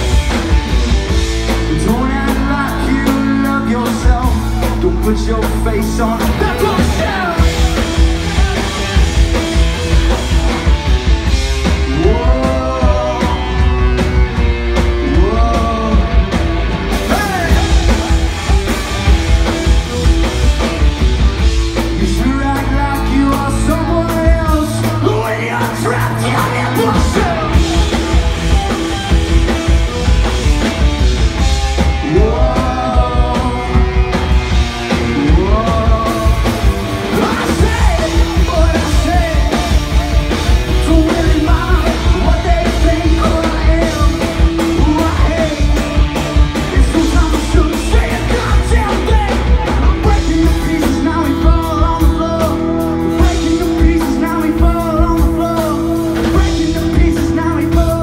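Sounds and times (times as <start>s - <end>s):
rock band playing: 0.0s - 58.0s
person singing lead vocals: 1.4s - 21.0s, 21.6s - 58.0s.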